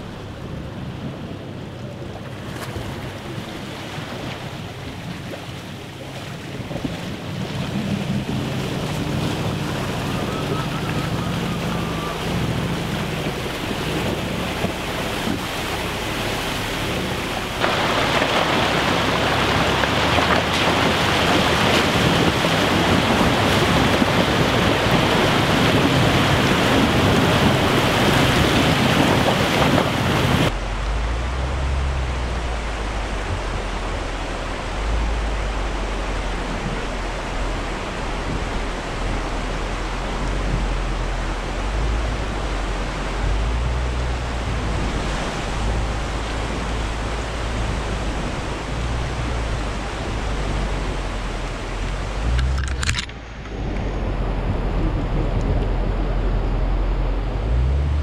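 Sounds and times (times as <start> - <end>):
suv engine running: 0.0 - 58.0
vehicle rumbling through water: 0.0 - 58.0
water rushing splash: 0.0 - 58.0
wind noise on microphone: 0.0 - 58.0.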